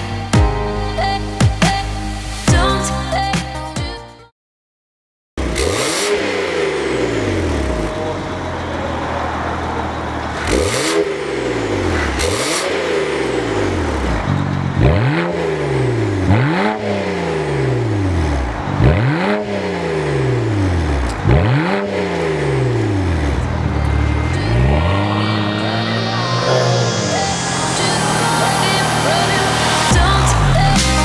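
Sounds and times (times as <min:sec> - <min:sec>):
car engine revving: 0:05.4 - 0:31.0.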